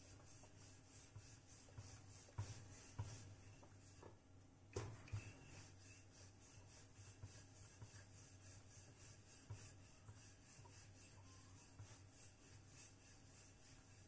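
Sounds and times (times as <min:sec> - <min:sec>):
rolling pin rubbing on board: 0:00.0 - 0:04.2, 0:05.1 - 0:14.0.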